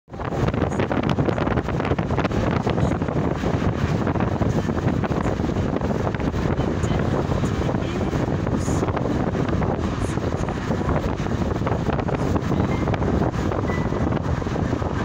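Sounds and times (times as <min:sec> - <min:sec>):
vehicle road noise: 0:00.1 - 0:15.0
wind buffeting microphone: 0:00.1 - 0:15.0.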